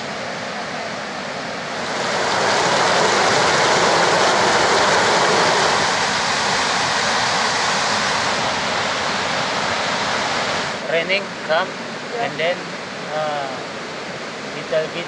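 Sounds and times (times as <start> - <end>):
river rapids rushing over boulders: 0.0 - 15.0.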